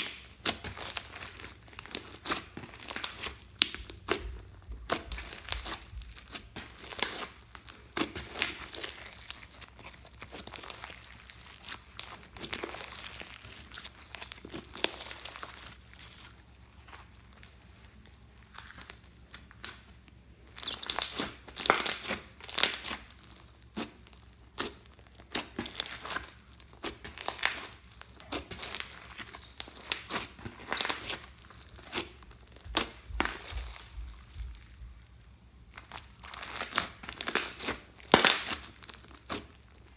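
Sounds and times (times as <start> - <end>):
slime crackling: 0.0 - 39.9.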